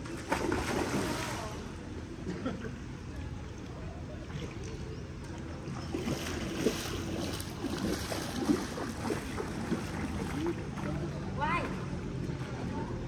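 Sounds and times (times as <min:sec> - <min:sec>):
water sloshing and splashing: 0:00.0 - 0:02.0, 0:03.5 - 0:13.0.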